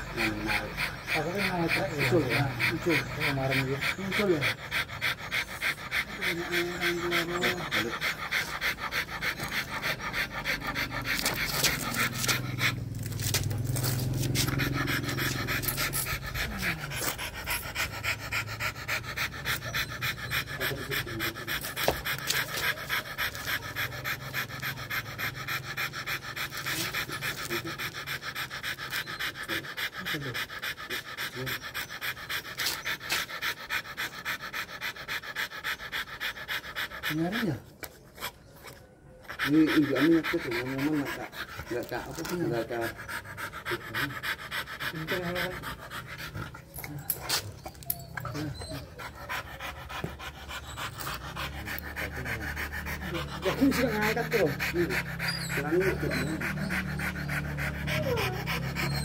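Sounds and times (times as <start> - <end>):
dogs panting: 0.0 - 59.0.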